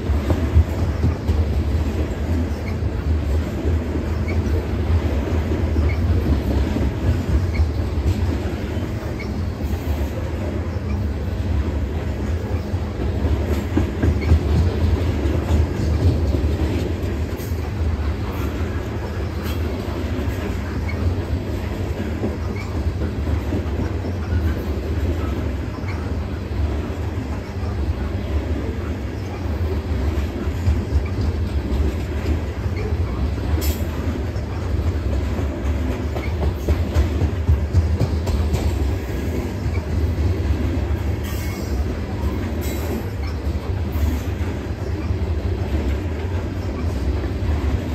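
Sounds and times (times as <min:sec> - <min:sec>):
freight train rumbling over bridge: 0:00.0 - 0:47.9.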